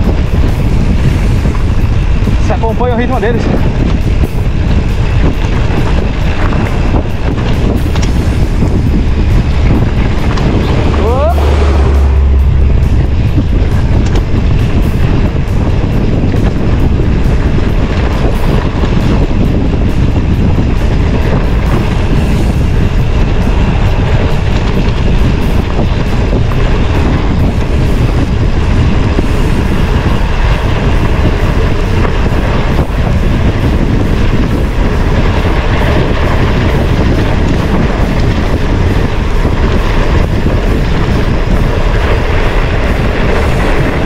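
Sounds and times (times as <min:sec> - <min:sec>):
bike tyre and frame noise: 0:00.0 - 0:44.0
wind buffeting microphone: 0:00.0 - 0:44.0.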